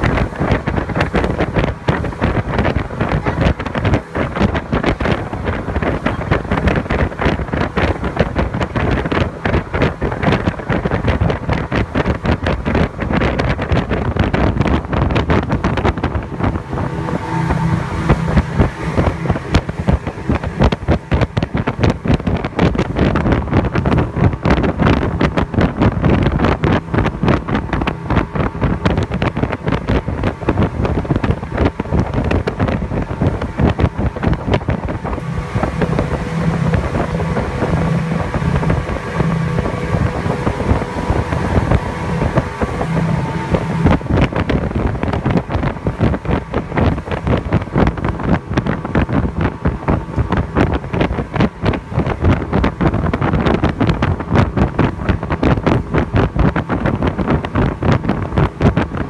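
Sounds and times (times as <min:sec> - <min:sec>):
speedboat engine drone: 0:00.0 - 0:59.0
wind buffeting microphone: 0:00.0 - 0:59.0.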